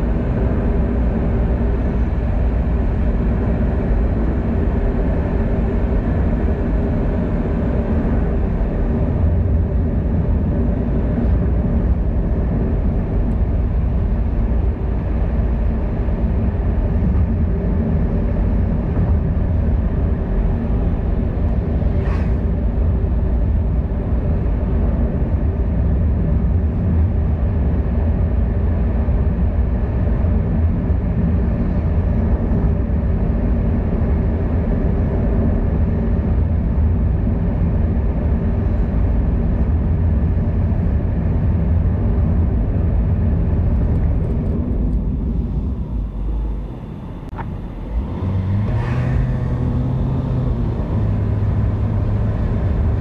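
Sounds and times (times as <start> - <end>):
road travel rumble: 0.0 - 53.0
wind: 0.0 - 53.0.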